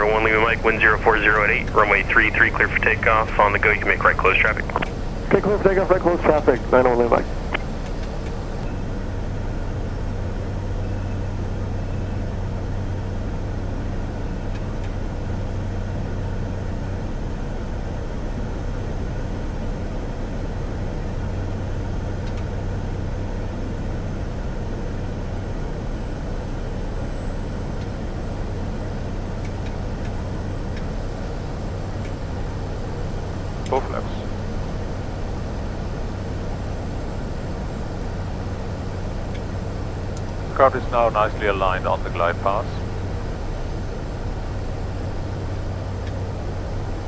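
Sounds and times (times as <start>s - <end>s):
turboprop engine and propeller drone: 0.0s - 47.0s.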